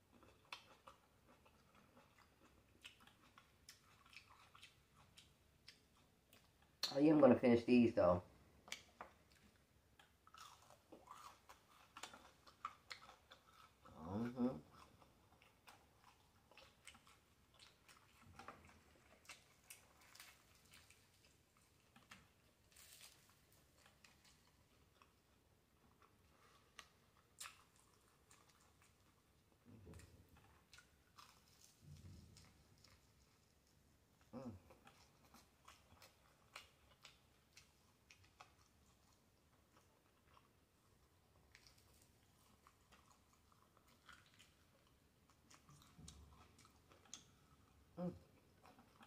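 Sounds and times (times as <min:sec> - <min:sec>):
chewing and mouth smacking: 0:00.0 - 0:07.0, 0:08.6 - 0:49.0.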